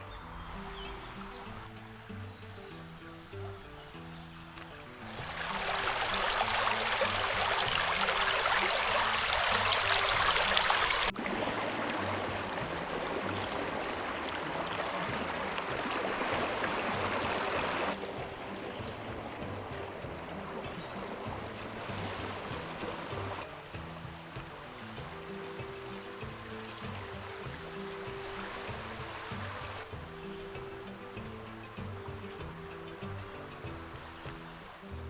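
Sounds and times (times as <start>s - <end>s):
creek water rushing: 0.0s - 35.0s
soft background music: 0.0s - 35.0s.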